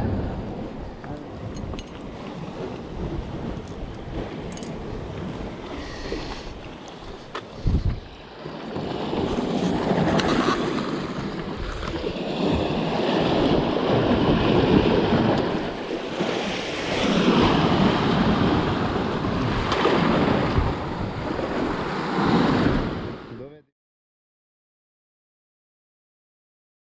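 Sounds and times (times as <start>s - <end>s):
waves breaking on rocks: 0.0s - 23.3s.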